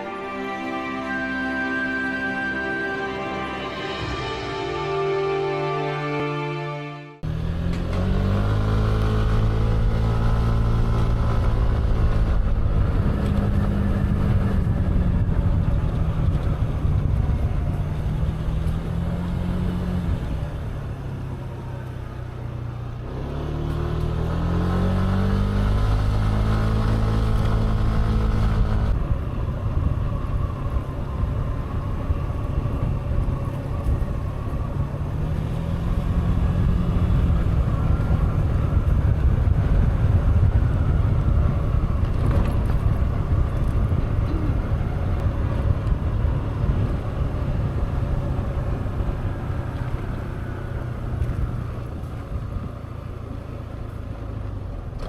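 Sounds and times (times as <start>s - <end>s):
scooter engine pulling away: 7.3s - 29.1s, 30.2s - 55.0s.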